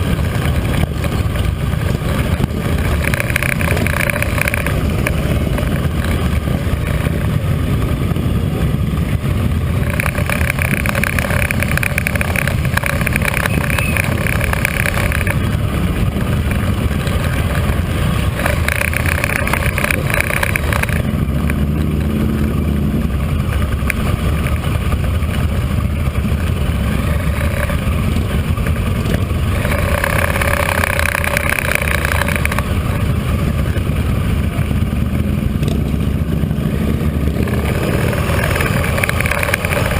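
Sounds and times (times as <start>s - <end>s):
motorcycle engines rumbling: 0.0s - 39.9s.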